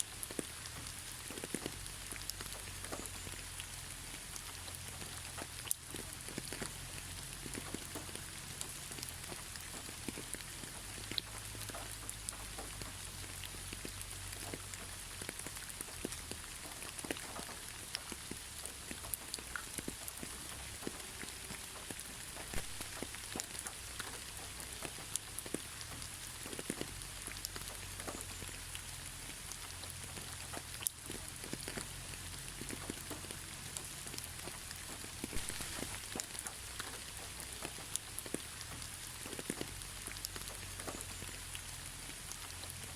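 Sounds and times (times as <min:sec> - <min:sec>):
gentle steady rain: 0:00.0 - 0:42.9
raindrops striking close by: 0:00.0 - 0:42.9.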